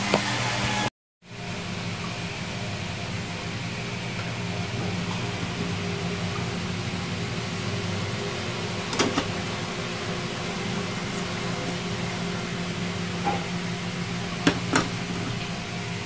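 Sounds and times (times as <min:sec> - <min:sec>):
steady low hum: 0:01.2 - 0:16.0.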